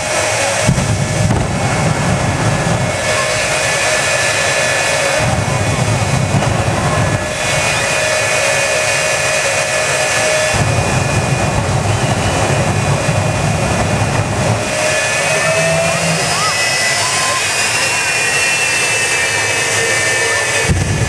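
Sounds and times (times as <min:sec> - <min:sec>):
jet engine roaring: 0:00.0 - 0:21.0.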